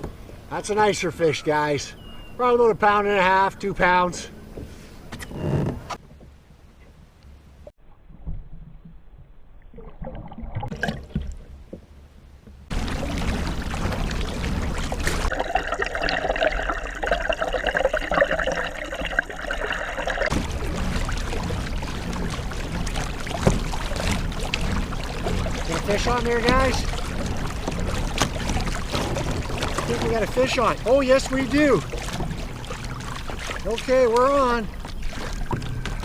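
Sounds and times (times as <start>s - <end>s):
water splashing around kayak: 0.0s - 36.0s.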